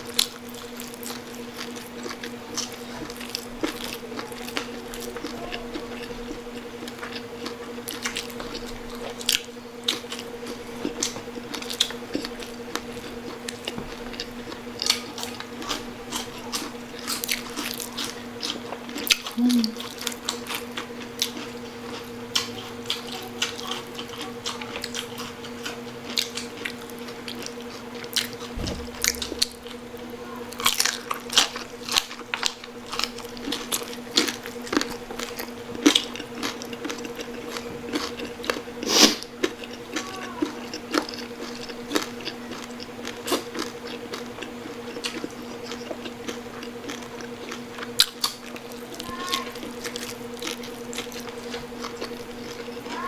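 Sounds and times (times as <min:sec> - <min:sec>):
crunching and chewing: 0:00.0 - 0:53.0
steady low hum: 0:00.0 - 0:53.0.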